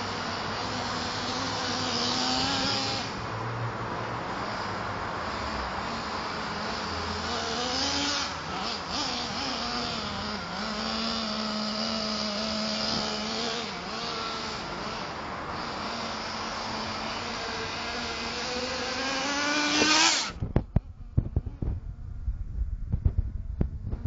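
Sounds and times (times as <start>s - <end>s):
small two-stroke engine revving: 0.0s - 22.0s.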